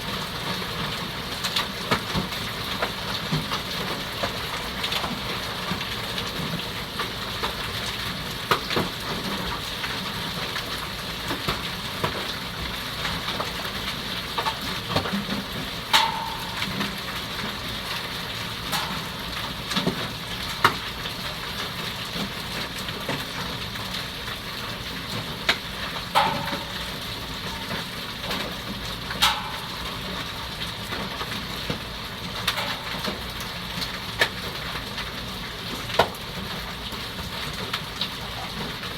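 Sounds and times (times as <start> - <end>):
hail and rain falling: 0.0 - 38.9.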